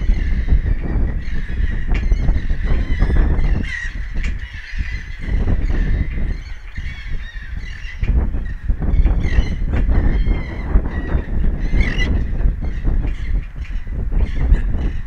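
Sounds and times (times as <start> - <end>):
birds squawking: 0.0 - 15.0.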